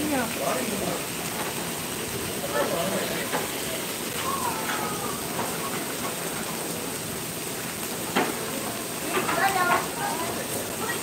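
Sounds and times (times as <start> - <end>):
faint distant voices: 0.0 - 11.0
steady hiss: 0.0 - 11.0.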